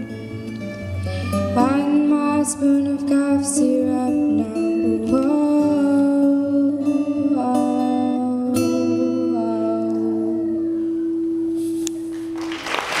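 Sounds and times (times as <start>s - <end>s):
acoustic guitar strumming: 0.0s - 12.6s.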